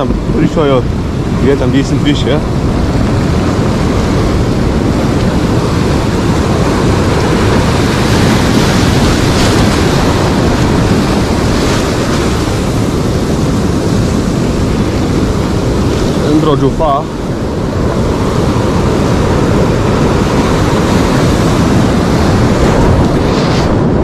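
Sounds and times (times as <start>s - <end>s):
ocean surf washing in: 0.0s - 24.0s
wind buffeting microphone: 0.0s - 24.0s.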